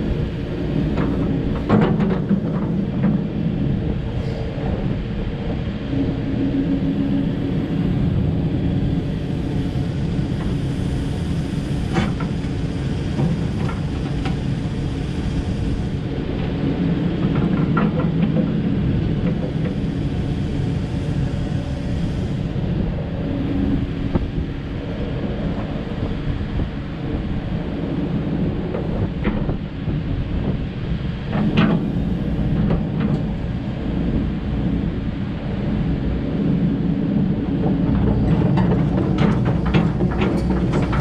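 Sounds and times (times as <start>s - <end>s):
excavator diesel engine running: 0.0s - 29.6s, 31.2s - 41.0s.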